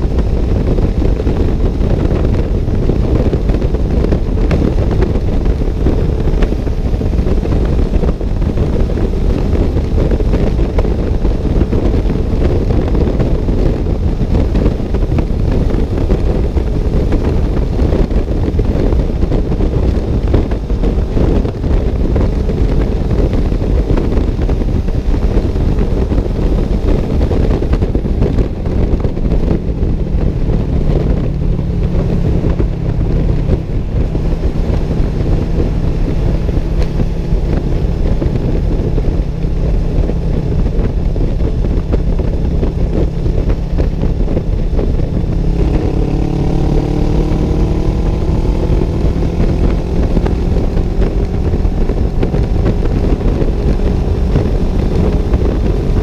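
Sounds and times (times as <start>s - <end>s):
steady low hum: 0.0s - 56.0s
vehicle road rumble: 0.0s - 56.0s
wind buffeting microphone: 0.0s - 56.0s.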